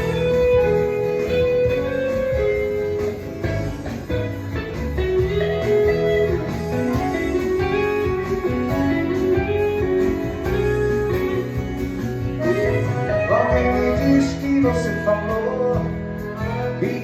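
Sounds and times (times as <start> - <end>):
steady drum beat: 0.0 - 15.1
bass: 0.0 - 17.0
guitar melody: 0.0 - 17.0.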